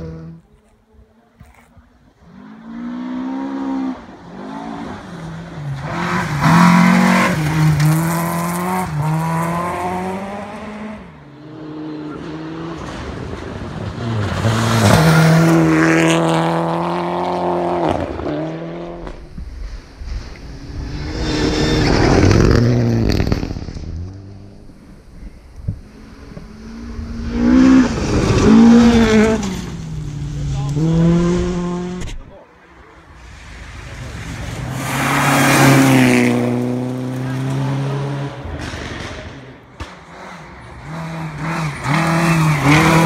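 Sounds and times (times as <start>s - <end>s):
rally car engines revving: 0.0s - 0.5s, 2.1s - 43.0s.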